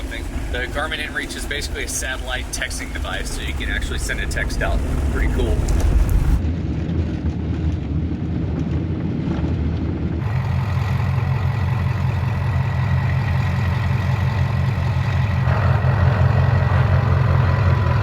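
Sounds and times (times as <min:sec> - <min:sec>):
diesel engine running: 0:00.0 - 0:06.5, 0:07.9 - 0:18.0
road noise: 0:00.0 - 0:18.0.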